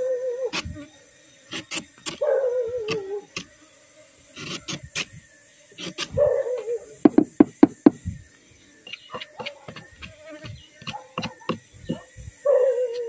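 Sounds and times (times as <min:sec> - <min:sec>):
wavering whine: 0:00.0 - 0:13.0.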